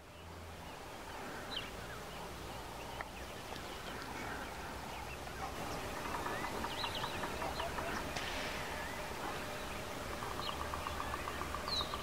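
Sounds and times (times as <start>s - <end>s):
background hiss: 0.0s - 12.0s
short bird calls: 1.2s - 12.0s.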